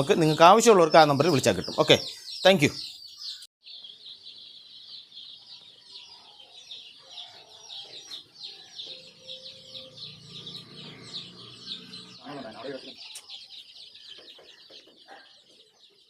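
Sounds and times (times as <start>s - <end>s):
chickens clucking: 0.0s - 2.7s, 5.6s - 16.0s
chicks peeping: 0.0s - 16.0s.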